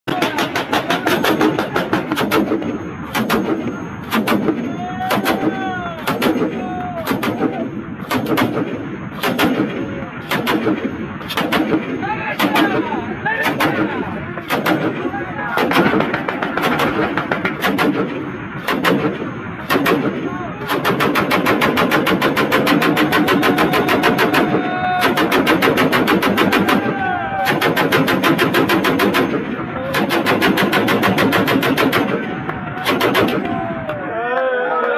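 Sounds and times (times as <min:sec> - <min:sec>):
machine gun firing bursts: 0:00.1 - 0:06.5, 0:07.1 - 0:33.5.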